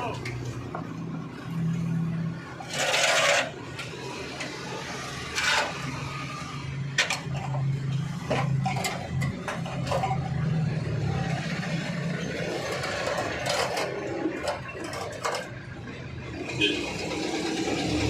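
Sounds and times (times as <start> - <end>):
metal scraping: 1.5 - 18.0.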